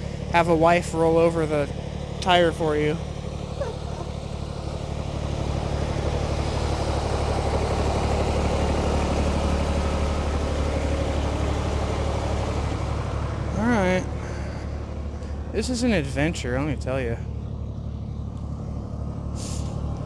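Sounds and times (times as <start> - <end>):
tractor engine idling: 0.0 - 20.0.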